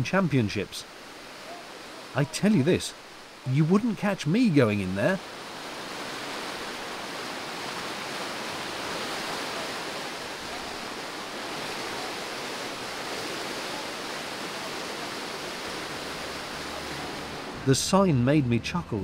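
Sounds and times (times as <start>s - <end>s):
white water rapids rushing: 0.0s - 18.0s.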